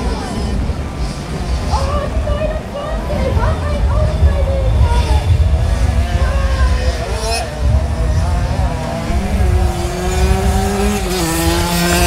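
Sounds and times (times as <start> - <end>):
heavy low rumble: 0.0 - 12.0
moped engines revving: 0.0 - 12.0.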